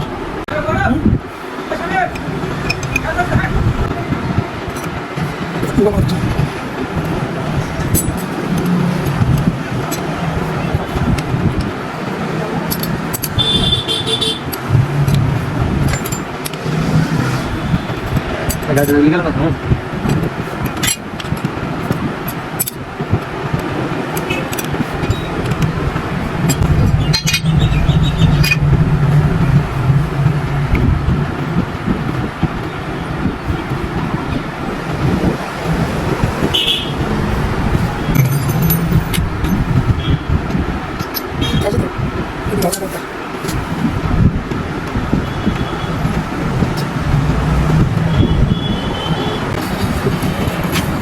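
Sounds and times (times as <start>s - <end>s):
vehicle engine hum: 0.0s - 51.0s.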